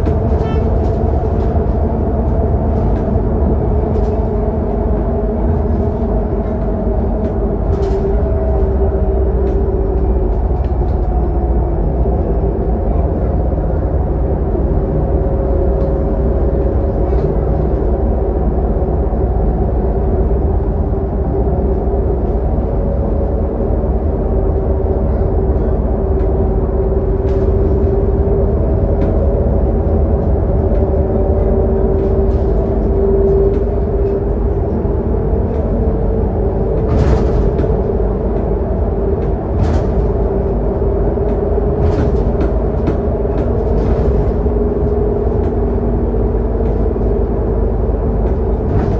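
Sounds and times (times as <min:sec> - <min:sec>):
bus diesel engine droning: 0:00.0 - 0:48.9
constant whine: 0:00.0 - 0:48.9
road rumble: 0:00.0 - 0:48.9.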